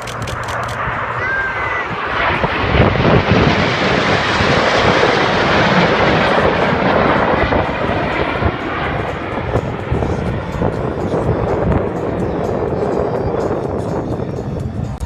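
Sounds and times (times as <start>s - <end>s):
airplanes flying past: 0.0s - 15.0s.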